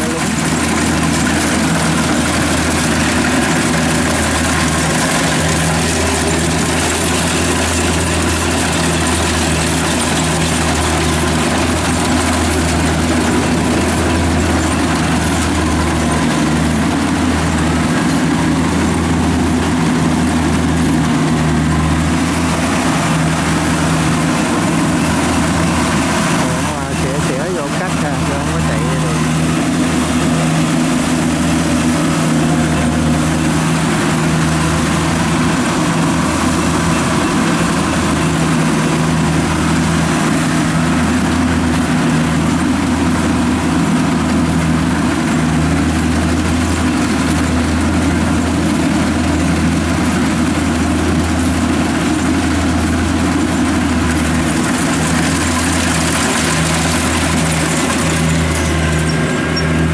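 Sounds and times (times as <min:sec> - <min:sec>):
combine harvester diesel engine hum: 0:00.0 - 0:59.9.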